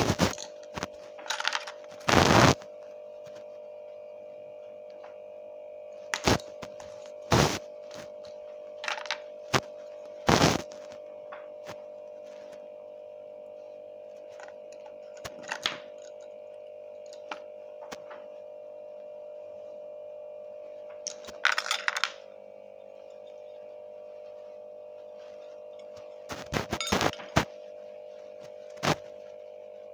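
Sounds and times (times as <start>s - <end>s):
steady hum: 0.0s - 29.9s.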